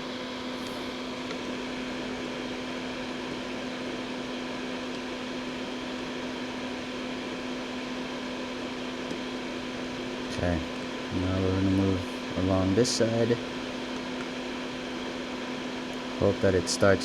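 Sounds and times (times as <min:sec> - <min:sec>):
motor or fan humming: 0:00.0 - 0:17.0.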